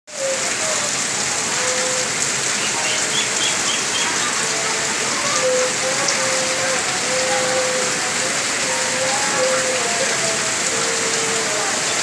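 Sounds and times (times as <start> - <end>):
steady rain falling: 0.1 - 12.0.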